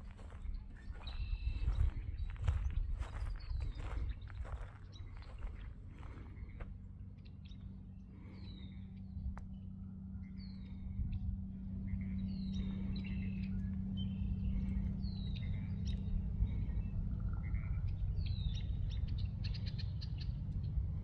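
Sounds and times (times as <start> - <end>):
low hum: 0.0 - 21.0
low rumble: 0.0 - 21.0
small birds chirping: 0.0 - 21.0.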